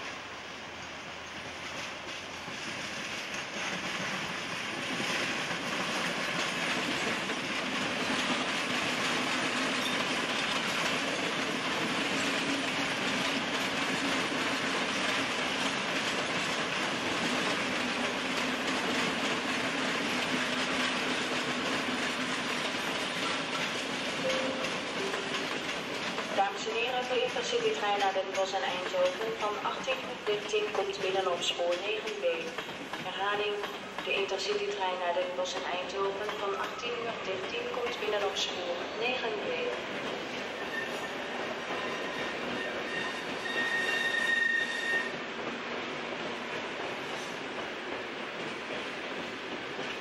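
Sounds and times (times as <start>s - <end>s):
train wheels clattering over rail joints: 1.3s - 39.0s, 39.8s - 50.0s.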